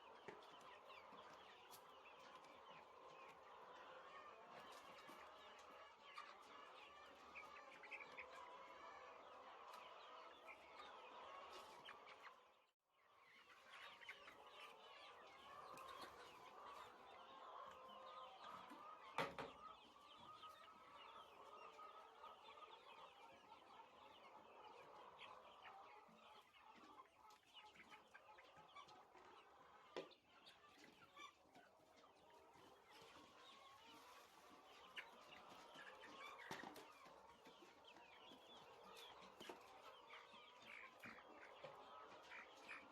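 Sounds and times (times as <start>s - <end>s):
poultry clucking and cheeping: 0.0s - 42.9s.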